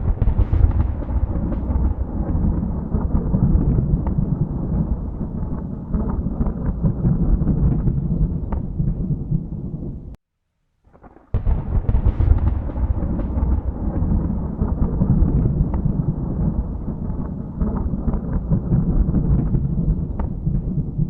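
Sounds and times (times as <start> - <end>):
sharp thunder crack: 0.0 - 10.1, 10.9 - 21.0
thunder rumbling: 0.0 - 10.2, 10.9 - 21.0.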